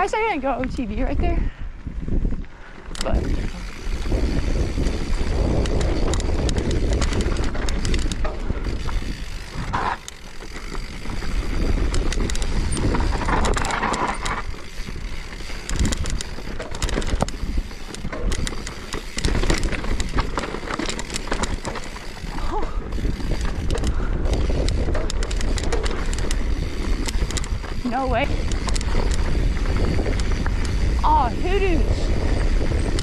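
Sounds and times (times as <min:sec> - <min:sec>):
bike rattling and clicking: 0:00.0 - 0:33.0
wind rumbling on microphone: 0:00.0 - 0:33.0
tyres rolling over gravel: 0:03.7 - 0:33.0.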